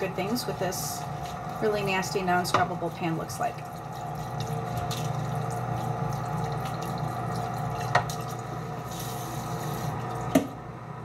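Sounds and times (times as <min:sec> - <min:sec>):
faucet running water into pan: 0:00.0 - 0:10.4.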